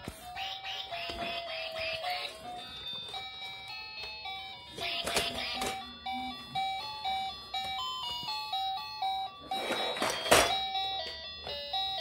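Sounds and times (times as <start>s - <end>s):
electronic toy beeping tune: 0.3s - 12.0s.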